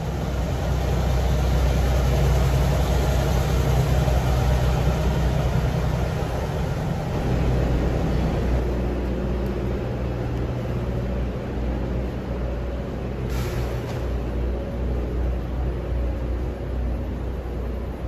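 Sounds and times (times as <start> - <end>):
diesel engine drone: 0.0 - 18.0
steel wheels rumbling on rails: 0.0 - 18.0.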